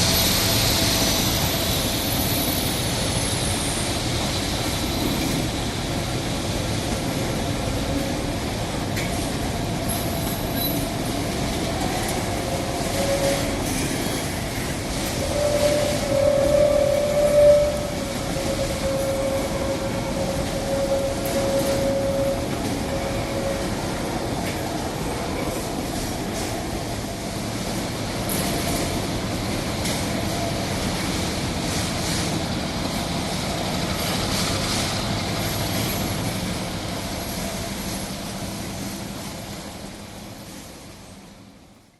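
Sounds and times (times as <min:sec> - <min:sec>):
train wheels squealing: 0:00.0 - 0:26.5, 0:29.8 - 0:38.9
train wagons rolling on rails: 0:00.0 - 0:41.9.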